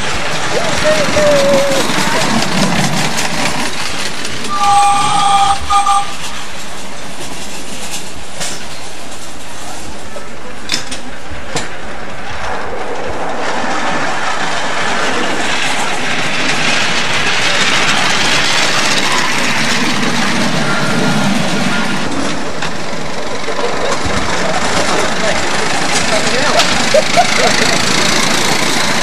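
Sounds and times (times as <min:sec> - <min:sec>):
miniature steam train passing: 0:00.0 - 0:29.0.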